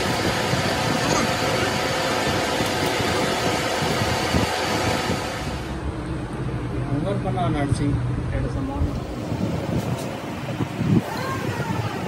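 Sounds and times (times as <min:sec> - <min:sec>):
machine running with hiss and rumble: 0:00.0 - 0:12.0.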